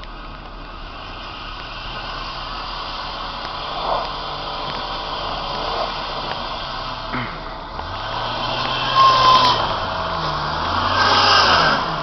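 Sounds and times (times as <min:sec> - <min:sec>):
car engine under throttle: 0:00.0 - 0:12.0.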